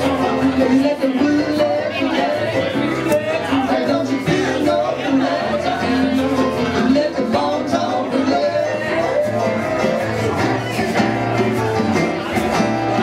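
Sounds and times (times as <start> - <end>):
live band playing amplified music: 0.0 - 13.0.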